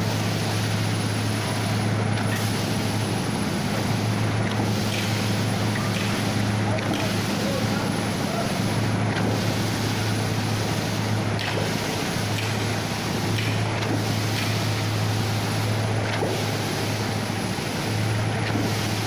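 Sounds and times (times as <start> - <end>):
small petrol engines droning: 0.0 - 19.0.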